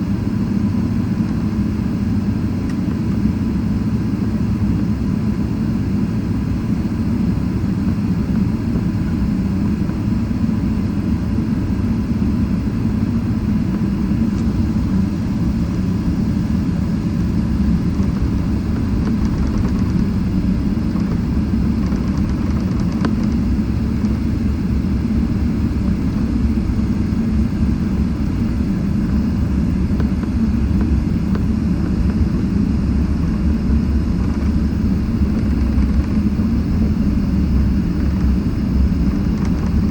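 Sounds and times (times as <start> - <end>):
faint steady whine: 0.0 - 39.9
jet engines rumbling: 0.0 - 39.9.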